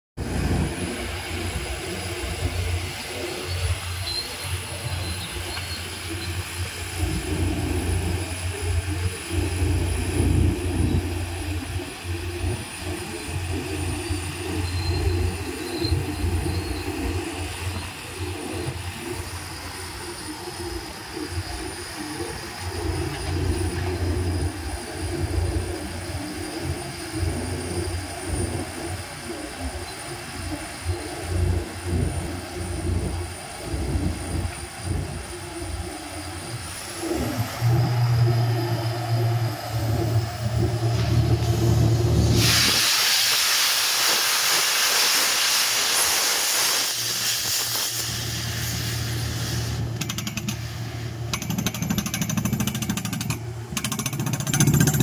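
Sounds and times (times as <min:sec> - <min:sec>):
drill rig rumbling: 0:00.2 - 0:28.8, 0:30.7 - 0:44.4, 0:45.4 - 0:55.0
thin high whine: 0:00.2 - 0:52.7.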